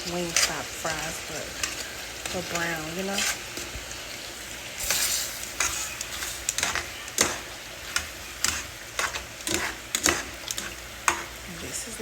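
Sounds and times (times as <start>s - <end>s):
fries sizzling in hot oil: 0.0s - 12.0s
utensil scraping pan: 0.0s - 12.0s.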